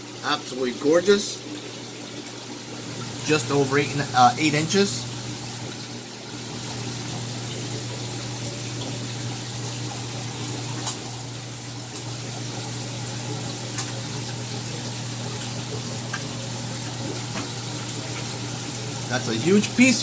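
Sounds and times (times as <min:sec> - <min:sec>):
circulating water rushing: 0:00.0 - 0:20.0
pump hum: 0:00.0 - 0:20.0.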